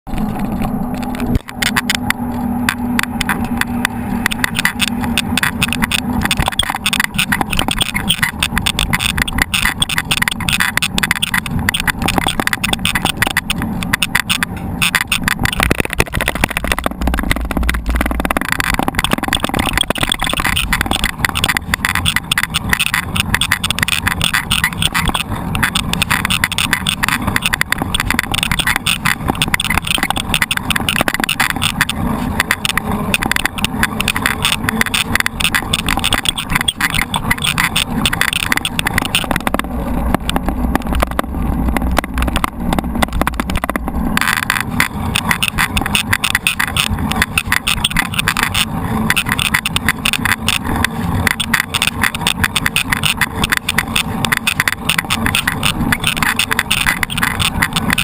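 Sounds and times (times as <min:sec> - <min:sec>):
bike rattling and clicking: 0:00.0 - 0:58.0.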